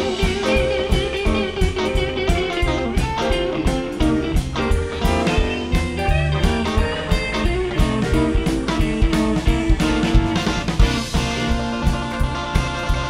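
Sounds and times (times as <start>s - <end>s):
drum hits: 0.0s - 13.0s
electric guitars: 0.0s - 13.0s
upright bass: 0.0s - 13.0s.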